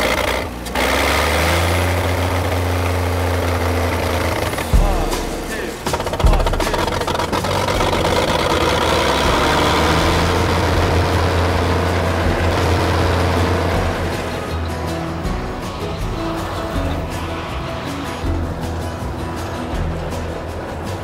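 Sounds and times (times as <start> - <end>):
snow blower running: 0.0 - 21.0.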